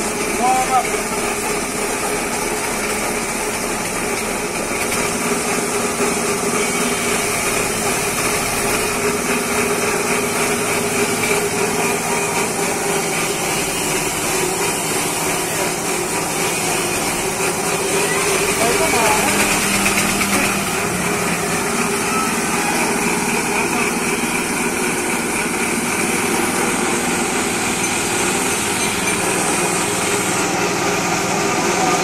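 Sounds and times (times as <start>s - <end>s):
small engine humming: 0.0s - 32.0s.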